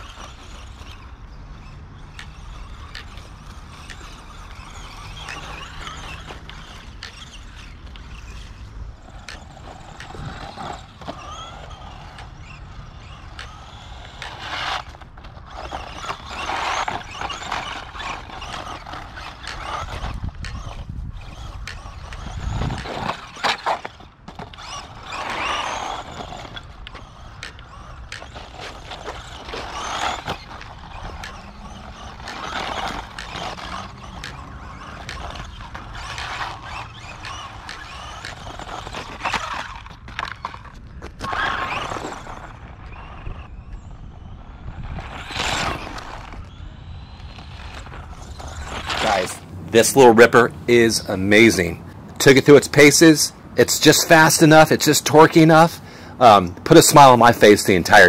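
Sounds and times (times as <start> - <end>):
rc truck motor whining: 0.0 - 58.0
tyres on dirt and pavement: 0.0 - 58.0.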